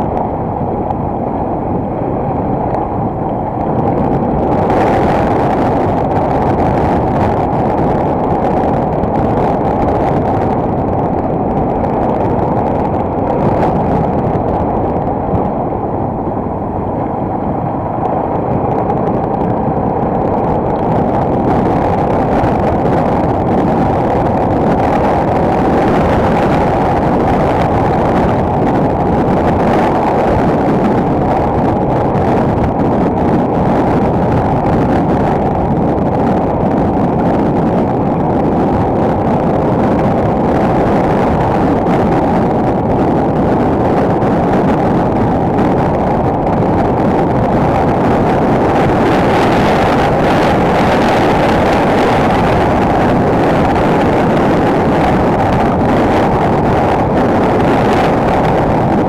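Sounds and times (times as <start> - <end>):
motorcycle engine rumble: 0.0 - 59.0
wind buffeting microphone: 0.0 - 59.0.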